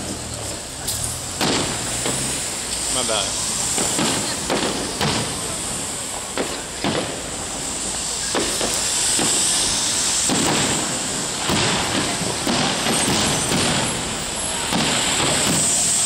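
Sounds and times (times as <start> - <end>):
fireworks hissing crackle: 0.0 - 16.0
fireworks pops and bangs: 0.0 - 16.0.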